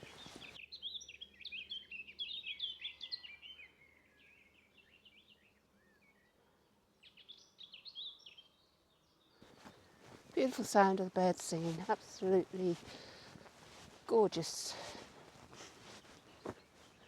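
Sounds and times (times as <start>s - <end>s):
songbird chirps and trills: 0.0s - 17.0s.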